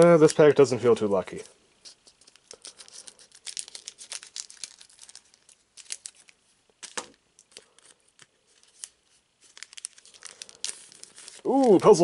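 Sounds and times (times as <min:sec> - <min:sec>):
foil wrapper crinkling: 0:01.3 - 0:12.0.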